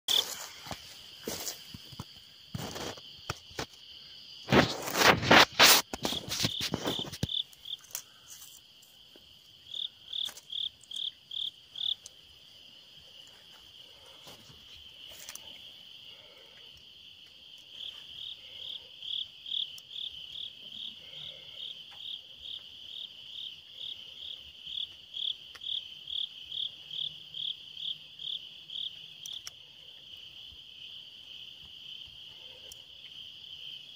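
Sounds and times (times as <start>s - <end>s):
crickets chirping: 0.1s - 33.9s.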